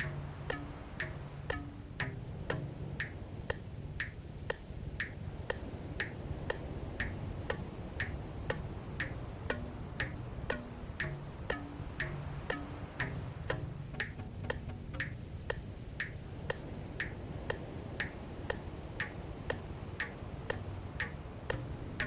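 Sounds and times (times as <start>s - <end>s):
sharp ticking clicks: 0.0s - 22.0s.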